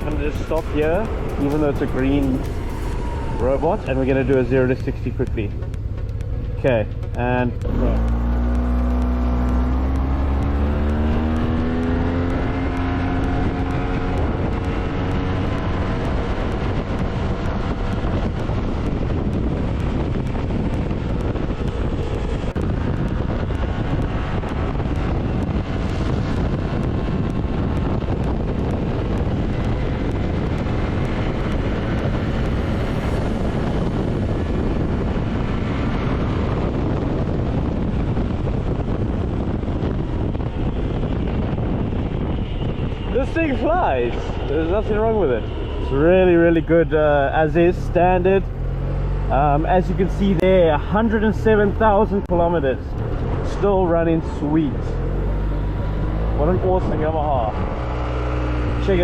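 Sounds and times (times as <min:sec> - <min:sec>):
scooter engine at full throttle: 0:00.0 - 0:47.1, 0:47.7 - 0:59.0
wind rushing over microphone: 0:00.0 - 0:59.0.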